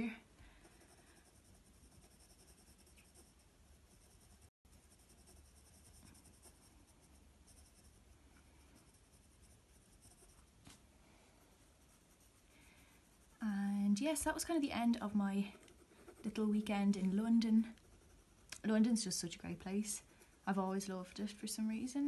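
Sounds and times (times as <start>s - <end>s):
pencil scratching on paper: 0.6s - 10.6s, 11.3s - 21.2s.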